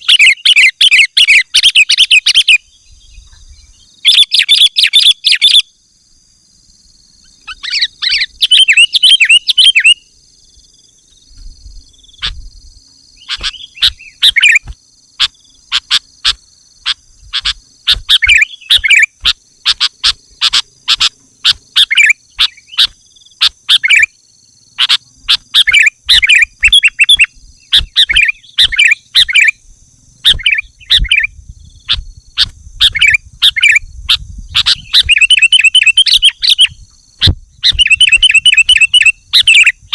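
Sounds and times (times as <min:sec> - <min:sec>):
bird chattering and chirping: 0:00.0 - 0:05.7, 0:07.2 - 0:10.0, 0:13.1 - 0:29.6, 0:30.2 - 0:39.9.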